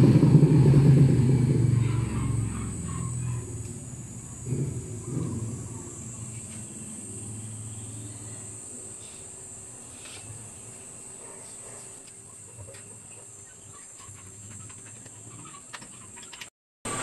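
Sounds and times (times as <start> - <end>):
faint low hum: 0.0 - 16.3
steady high hiss: 0.8 - 16.1.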